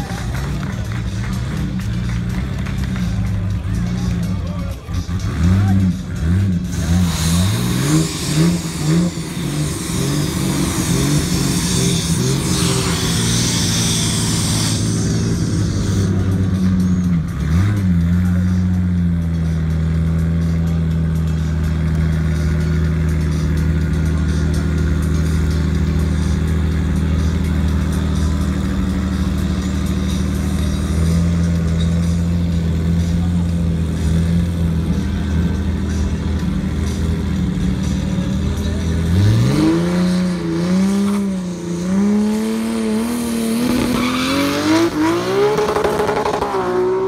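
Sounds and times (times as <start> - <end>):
car engine idling: 0.0 - 47.0
car engine revving: 0.0 - 47.0.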